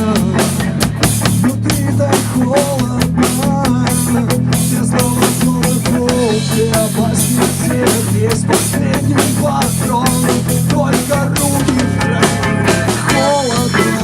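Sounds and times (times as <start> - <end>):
bass and guitar: 0.0 - 14.0
drum kit beating: 0.0 - 14.0.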